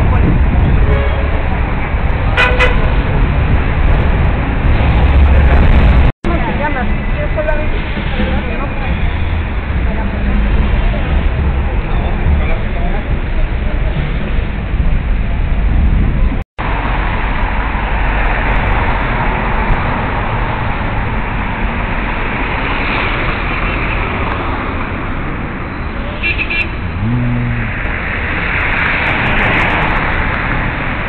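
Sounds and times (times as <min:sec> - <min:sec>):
cars driving past: 0:00.0 - 0:31.0.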